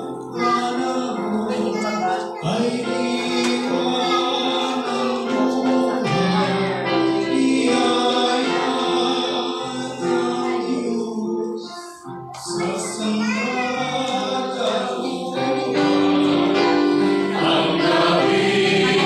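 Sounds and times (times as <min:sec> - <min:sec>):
group singing a carol: 0:00.0 - 0:19.0.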